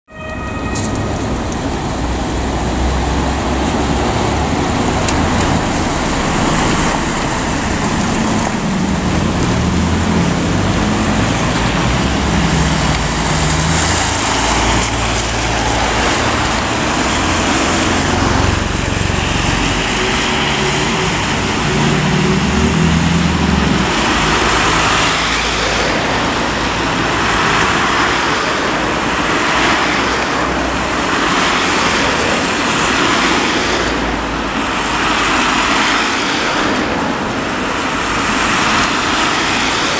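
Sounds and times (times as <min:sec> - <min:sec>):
tyres hissing on wet road: 0:00.1 - 0:39.9
vehicle engines running: 0:00.3 - 0:39.9.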